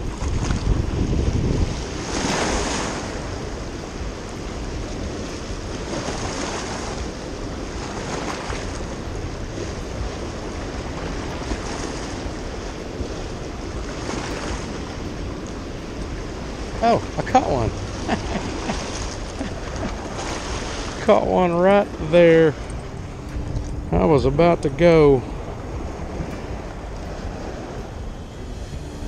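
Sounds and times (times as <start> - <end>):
whitewater rushing over rocks: 0.0 - 28.1
wind on microphone: 0.0 - 29.0.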